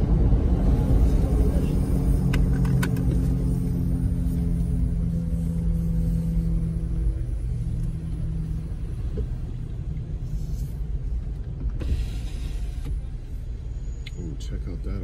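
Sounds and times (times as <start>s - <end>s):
car engine drone inside cabin: 0.0s - 15.0s.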